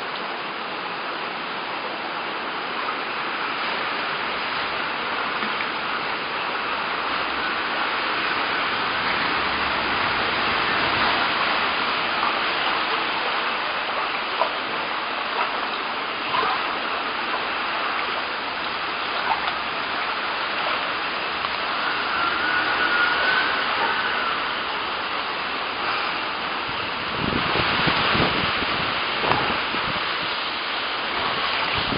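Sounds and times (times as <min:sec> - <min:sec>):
water rushing: 0:00.0 - 0:31.9.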